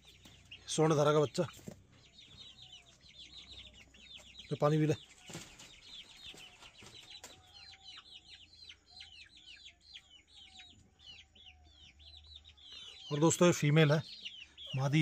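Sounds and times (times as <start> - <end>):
young chickens peeping: 0.0 - 15.0.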